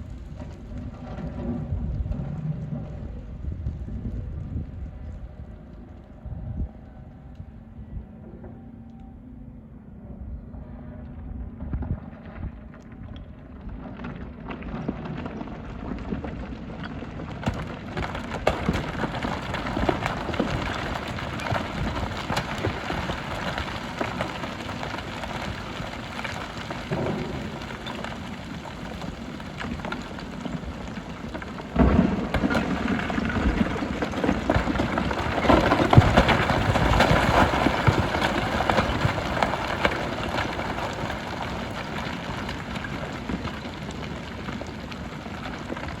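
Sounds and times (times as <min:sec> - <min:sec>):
gravel and stones clattering: 0:00.0 - 0:06.1, 0:11.6 - 0:46.0.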